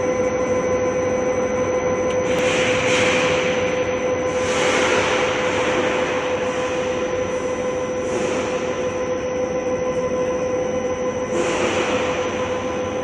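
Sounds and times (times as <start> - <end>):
lathe machine noise with whine: 0.0 - 13.0.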